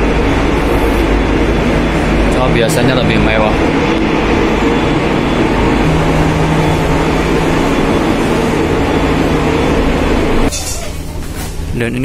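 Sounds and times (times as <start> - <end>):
low steady tone: 0.0 - 10.5
air conditioner units humming: 0.0 - 12.0.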